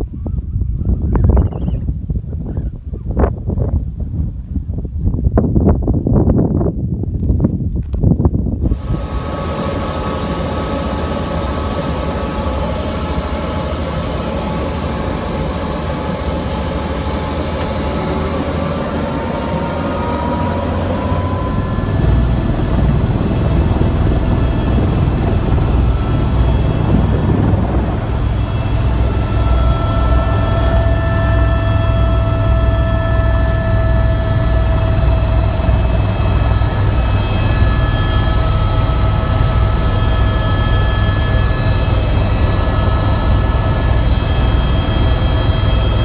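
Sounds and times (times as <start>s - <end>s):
helicopter turbine whine and rotor: 0.0s - 7.0s, 7.7s - 46.0s.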